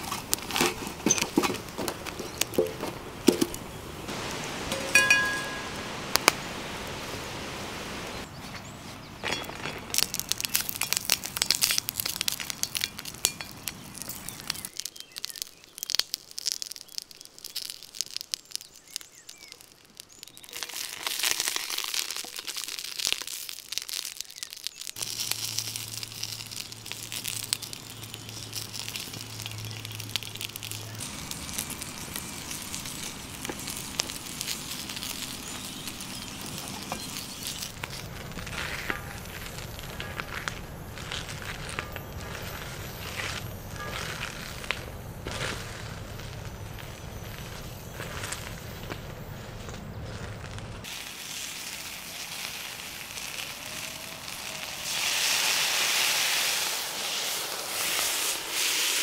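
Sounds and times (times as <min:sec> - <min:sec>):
peppers sizzling in a pan: 0:00.0 - 0:06.3, 0:09.9 - 0:49.0, 0:50.8 - 0:59.0
wood fire crackling and popping: 0:00.0 - 0:07.0, 0:09.4 - 0:59.0.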